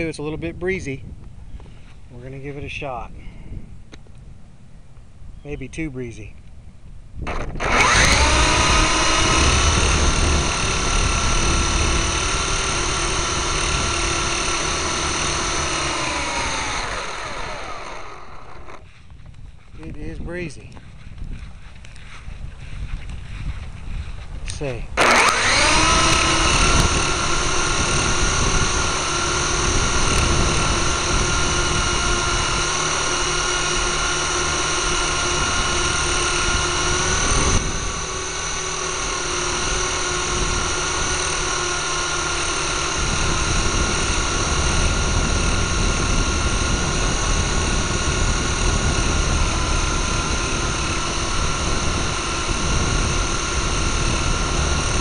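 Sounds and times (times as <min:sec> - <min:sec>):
wind rumble on microphone: 0:00.0 - 0:55.0
rc helicopter motor whine: 0:07.2 - 0:55.0.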